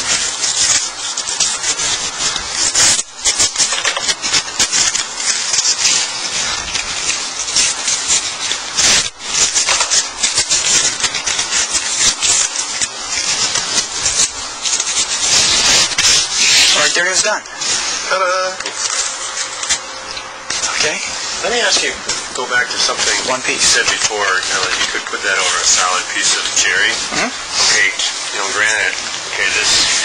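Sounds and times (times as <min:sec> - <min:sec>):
hand rubbing tape with crackles: 0:00.0 - 0:30.0.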